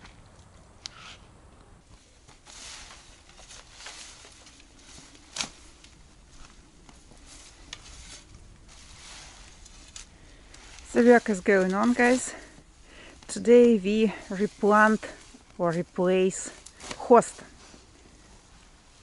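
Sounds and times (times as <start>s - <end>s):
rustling leaves and soil: 0.0s - 19.0s.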